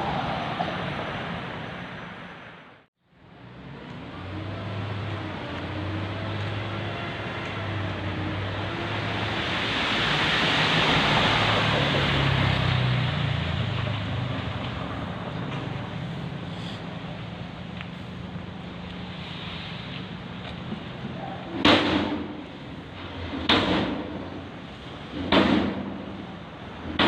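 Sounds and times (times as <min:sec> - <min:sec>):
tyre and road noise: 0:00.0 - 0:27.0
vehicle engine hum: 0:00.0 - 0:27.0.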